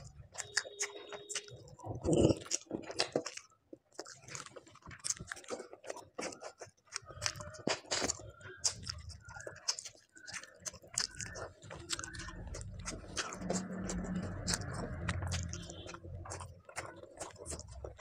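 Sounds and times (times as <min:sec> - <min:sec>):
wet chewing and mouth smacks: 0:00.0 - 0:18.0.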